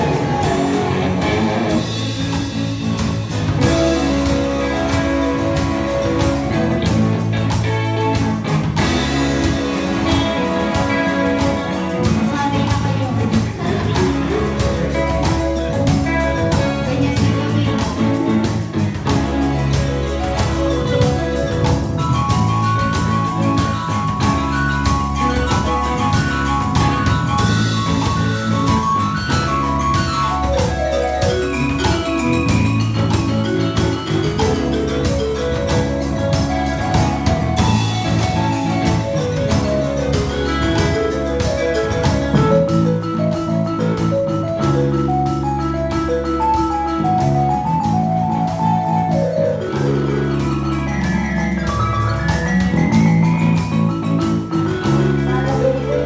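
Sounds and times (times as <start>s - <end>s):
drums steady beat: 0.0s - 56.0s
live band playing: 0.0s - 56.0s.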